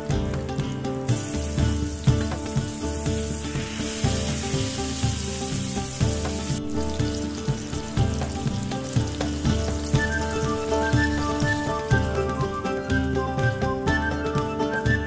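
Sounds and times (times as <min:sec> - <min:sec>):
mushrooms sizzling in hot oil: 0:00.0 - 0:13.1
background music with steady beat: 0:00.0 - 0:15.0.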